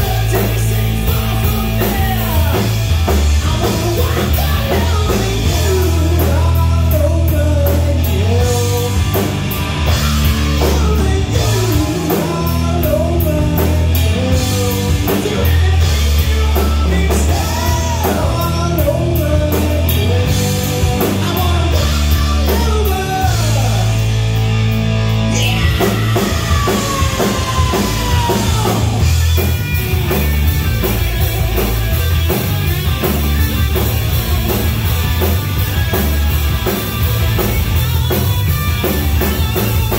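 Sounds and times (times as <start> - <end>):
electric guitar lead lines: 0.0 - 39.9
rock band playing live: 0.0 - 39.9.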